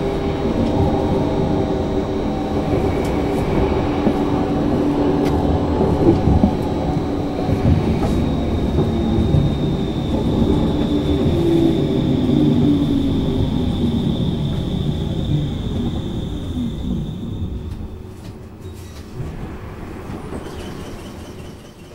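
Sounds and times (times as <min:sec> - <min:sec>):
tram wheels rumbling: 0:00.0 - 0:21.9.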